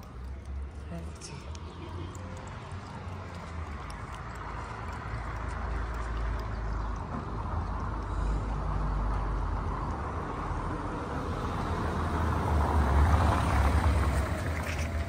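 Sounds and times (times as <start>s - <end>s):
street noise with low rumble: 0.0s - 15.0s.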